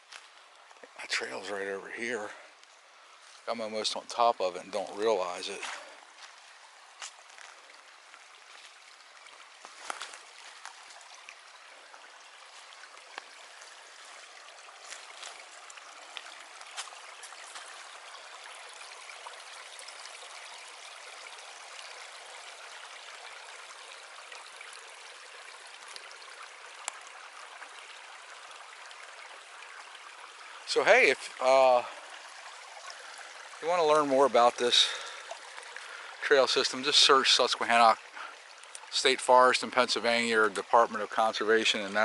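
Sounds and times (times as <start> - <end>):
stream water running over rocks: 0.0 - 42.0.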